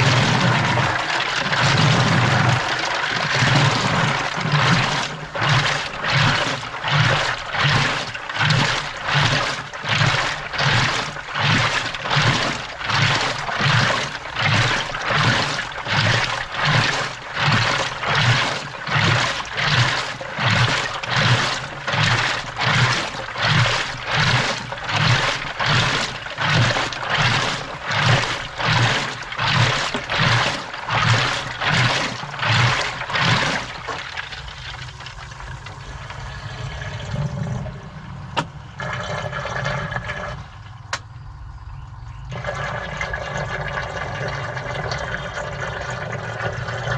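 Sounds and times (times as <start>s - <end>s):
steady rush of water: 0.0s - 38.0s
washing machine water sloshing: 0.0s - 41.0s, 42.3s - 46.9s.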